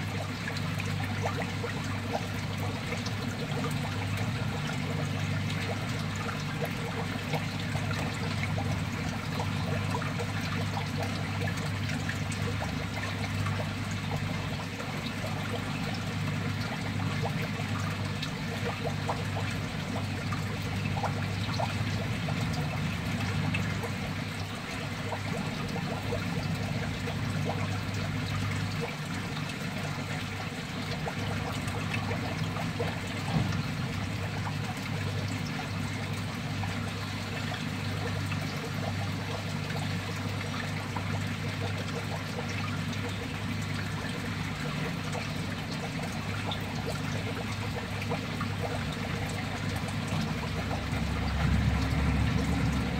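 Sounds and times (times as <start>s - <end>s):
water trickling and splashing: 0.0s - 52.9s.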